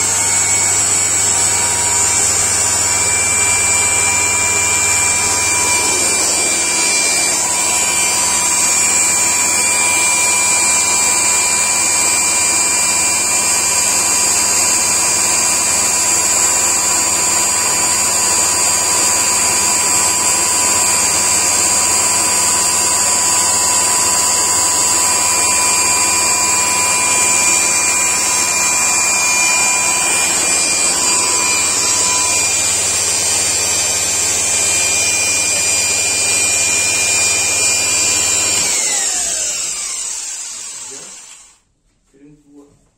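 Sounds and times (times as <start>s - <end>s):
electric motor whining: 0.0s - 41.6s.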